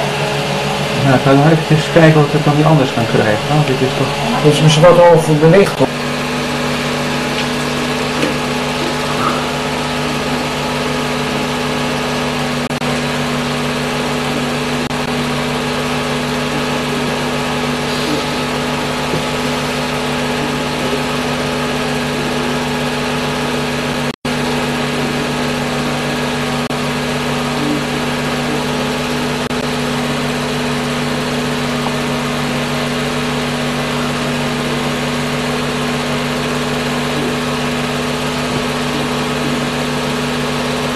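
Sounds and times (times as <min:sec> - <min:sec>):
film projector motor hum: 0:00.0 - 0:40.9.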